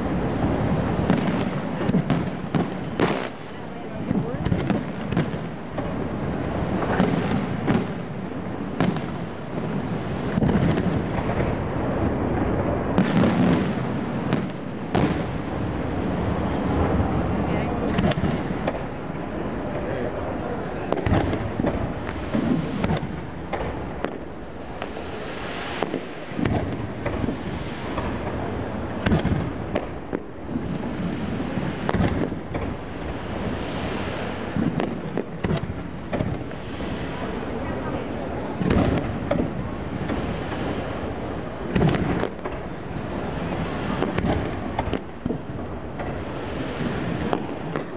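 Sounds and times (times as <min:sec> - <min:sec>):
fireworks bangs and crackling: 0:00.0 - 0:47.9
loud sharp fireworks reports: 0:00.0 - 0:47.9.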